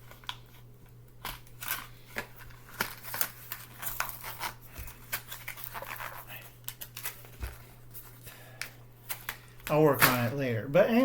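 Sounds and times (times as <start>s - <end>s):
plastic packaging clicks and snaps: 0.0s - 7.6s, 8.6s - 10.3s
packaging rustling: 0.0s - 10.4s.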